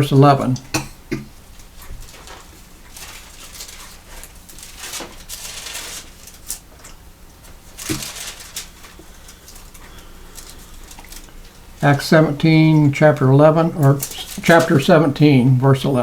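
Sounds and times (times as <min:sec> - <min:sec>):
book pages turning: 0:01.6 - 0:06.8, 0:07.4 - 0:15.8.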